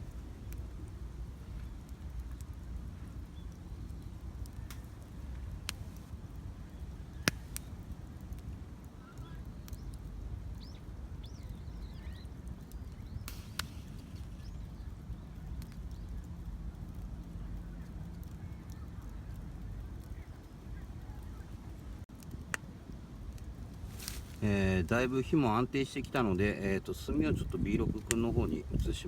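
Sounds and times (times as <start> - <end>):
fire popping and crackling: 0.0 - 29.0
wood fire burning: 0.0 - 29.0.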